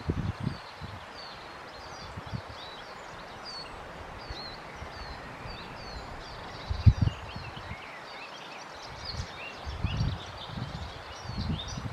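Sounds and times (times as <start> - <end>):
birds chirping and whistling: 0.0 - 11.9
steady background hiss: 0.0 - 11.9.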